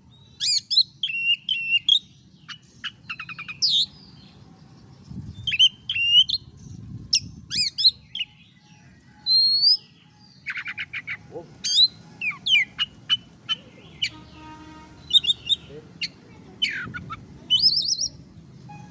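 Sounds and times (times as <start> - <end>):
bird singing whistles and chirps: 0.1 - 4.4, 5.1 - 18.9.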